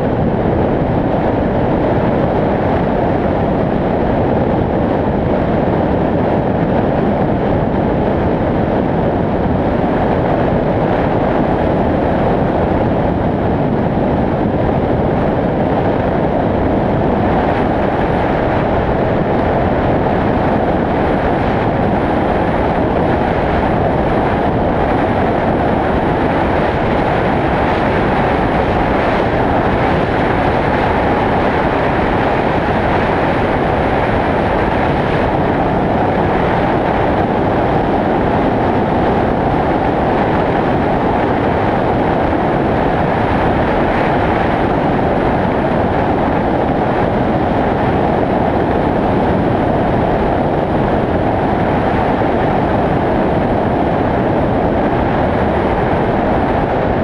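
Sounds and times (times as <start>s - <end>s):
wind rush: 0.0s - 57.0s.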